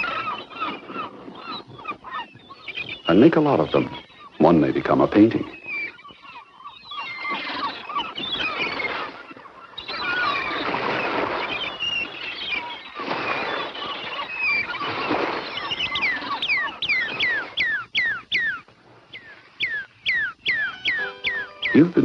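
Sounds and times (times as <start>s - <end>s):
bird singing falling whistles: 0.0s - 22.0s
gulls calling: 0.0s - 22.0s.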